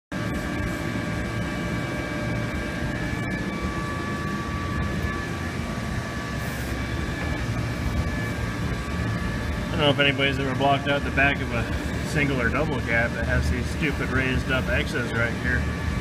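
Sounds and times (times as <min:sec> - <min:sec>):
machine drone low rumble: 0:00.1 - 0:16.0
faint high whines: 0:00.2 - 0:16.0.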